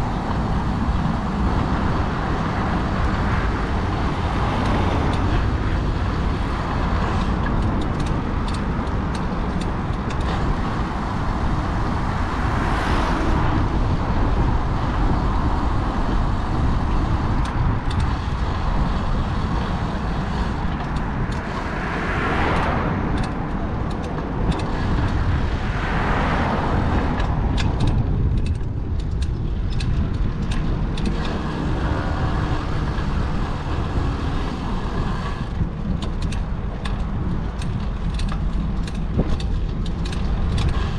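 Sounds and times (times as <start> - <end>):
low traffic rumble: 0.0 - 40.9
vehicles passing close: 0.0 - 40.9.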